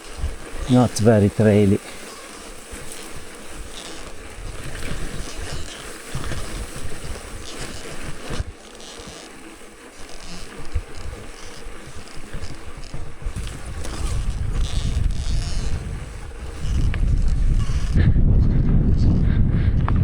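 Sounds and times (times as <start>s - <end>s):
wind buffeting microphone: 0.0s - 8.6s, 10.2s - 20.0s
bicycle rolling on dirt track: 0.0s - 20.0s.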